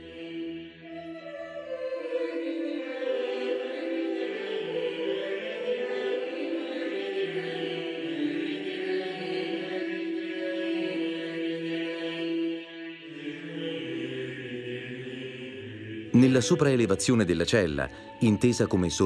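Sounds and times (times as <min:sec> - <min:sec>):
choral chant: 0:00.0 - 0:19.0.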